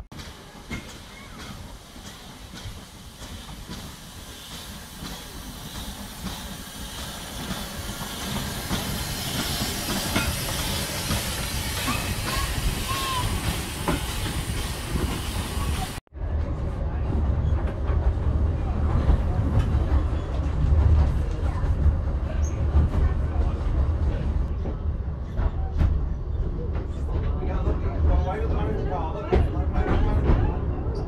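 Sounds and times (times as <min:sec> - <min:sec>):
train rumble and hiss: 0:00.0 - 0:31.0.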